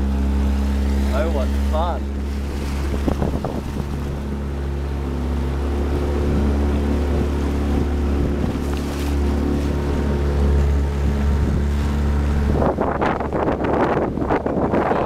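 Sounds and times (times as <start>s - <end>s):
outboard engine running: 0.0s - 15.0s
water noise: 0.0s - 15.0s
wind buffeting microphone: 0.0s - 15.0s.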